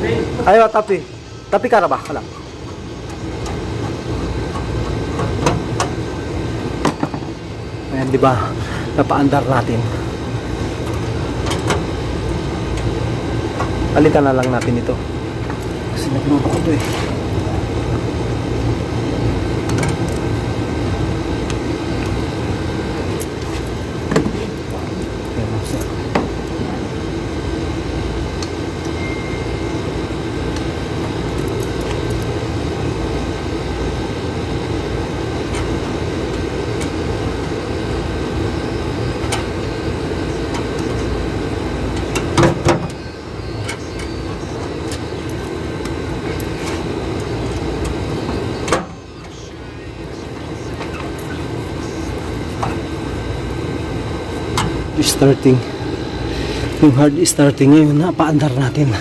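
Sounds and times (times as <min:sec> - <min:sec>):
air conditioner outdoor unit running: 0:00.0 - 0:59.0.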